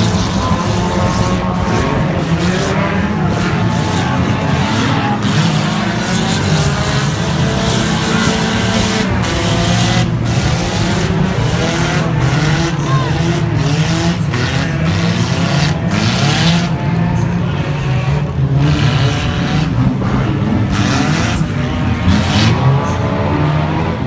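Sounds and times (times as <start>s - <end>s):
racing car engines revving: 0.0s - 24.0s.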